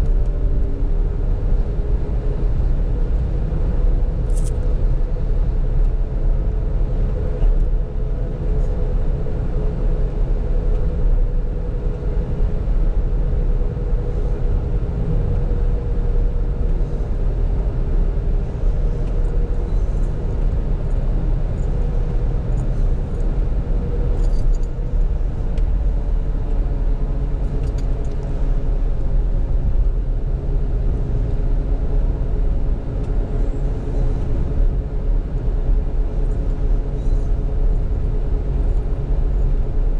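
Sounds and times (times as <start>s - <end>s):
car cabin engine and road rumble: 0.0s - 39.9s
droning hum: 0.0s - 39.9s.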